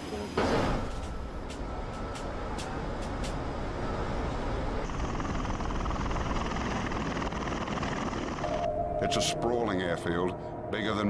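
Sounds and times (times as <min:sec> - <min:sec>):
aircraft rotor rumble: 0:00.0 - 0:11.0.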